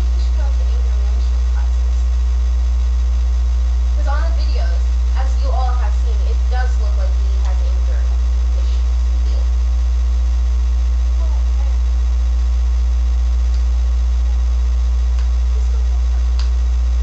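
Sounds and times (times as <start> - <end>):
loud low electrical hum: 0.0 - 17.0.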